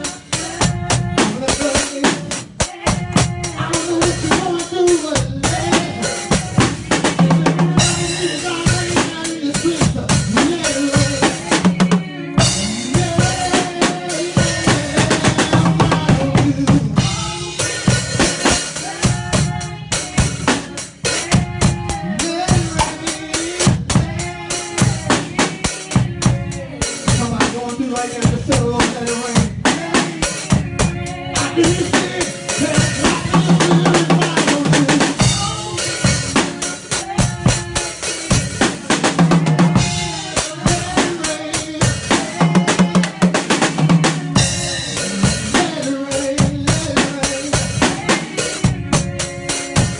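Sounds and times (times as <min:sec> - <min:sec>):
drum kit playing: 0:00.0 - 0:49.9
worship backing music: 0:00.0 - 0:49.9.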